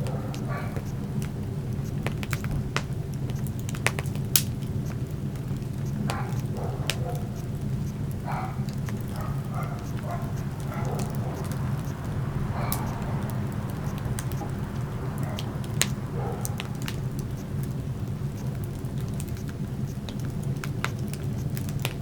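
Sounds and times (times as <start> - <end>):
low rumble of burning: 0.0 - 22.0
wood fire crackling: 0.0 - 22.0.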